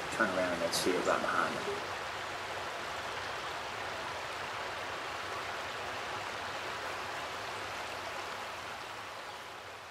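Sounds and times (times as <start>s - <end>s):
running water: 0.0s - 9.9s.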